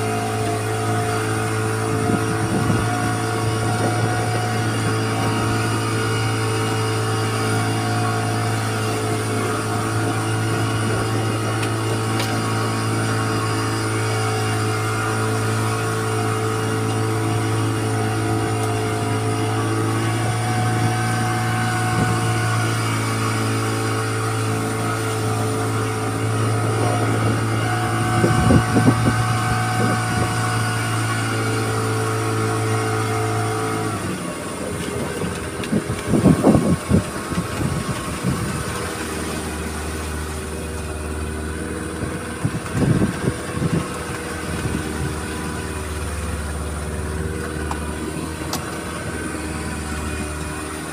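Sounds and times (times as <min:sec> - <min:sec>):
outboard motor running: 0:00.0 - 0:50.9.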